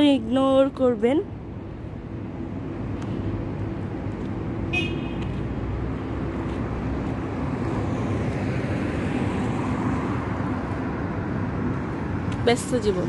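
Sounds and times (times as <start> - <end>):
street traffic hum: 0.0 - 13.0.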